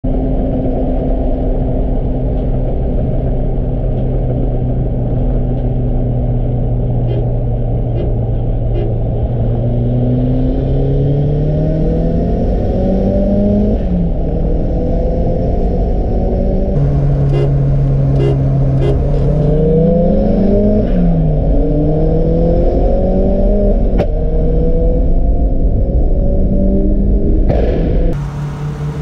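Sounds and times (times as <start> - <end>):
car engine drone: 0.0 - 29.0
road noise: 0.0 - 29.0.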